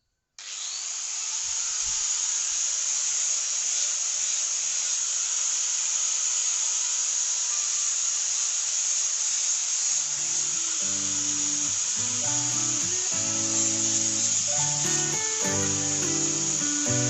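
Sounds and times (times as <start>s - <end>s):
power tool grinding steel: 0.4s - 17.0s.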